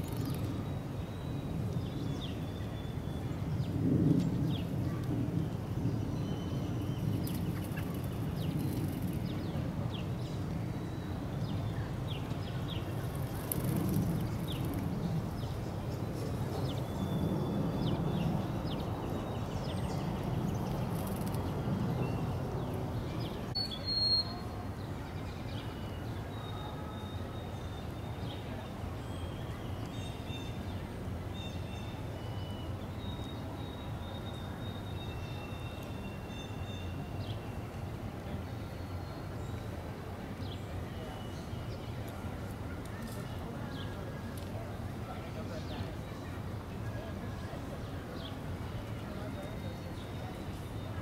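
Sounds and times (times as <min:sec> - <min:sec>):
songbirds chirping: 0:00.0 - 0:51.0.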